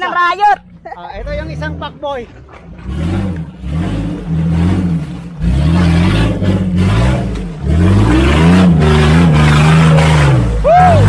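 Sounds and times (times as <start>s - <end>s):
off-road vehicle engine revving: 0.1s - 11.0s.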